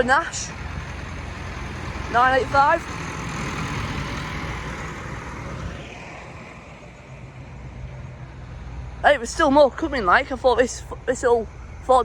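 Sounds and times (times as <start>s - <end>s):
low engine hum: 0.0s - 12.0s
tractor driving past: 0.0s - 12.0s.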